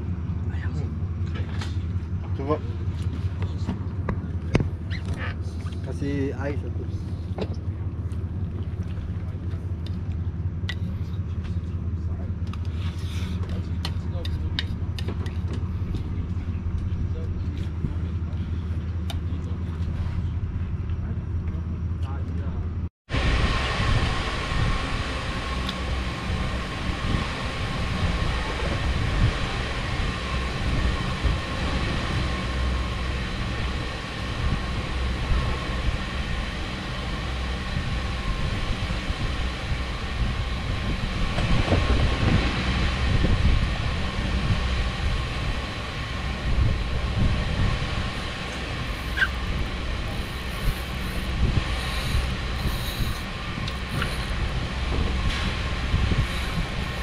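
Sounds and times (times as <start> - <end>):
low mechanical rumble: 0.0 - 57.0
thin steady whine: 0.0 - 57.0.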